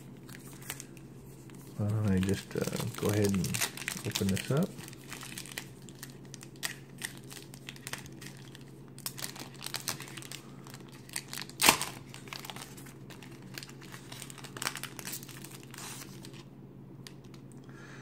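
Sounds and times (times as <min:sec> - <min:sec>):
packaging crinkling: 0:00.2 - 0:17.4
packaging ripping: 0:01.8 - 0:16.5.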